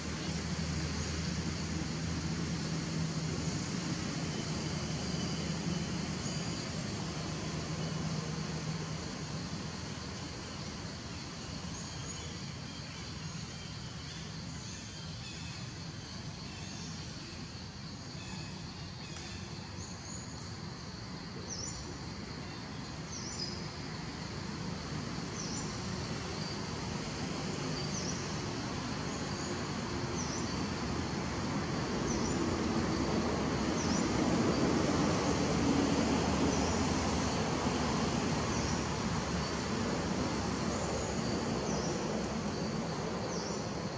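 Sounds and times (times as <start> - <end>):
noisy outdoor background: 0.0 - 43.9.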